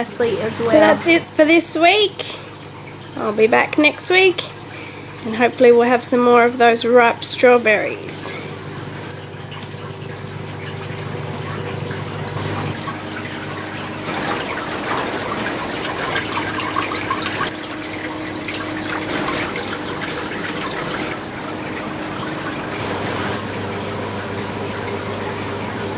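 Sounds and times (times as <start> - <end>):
low steady hum: 0.0 - 25.9
water running and trickling: 0.0 - 25.9.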